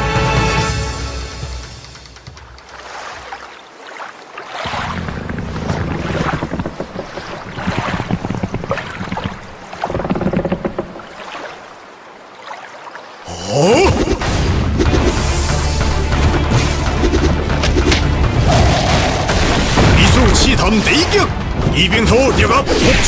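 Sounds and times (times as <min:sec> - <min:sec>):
wind: 0:00.0 - 0:23.0
sea waves washing around boat: 0:01.6 - 0:23.0.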